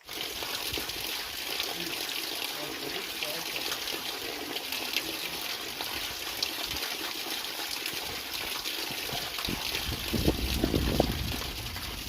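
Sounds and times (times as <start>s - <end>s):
rush of flowing water: 0.0s - 12.0s.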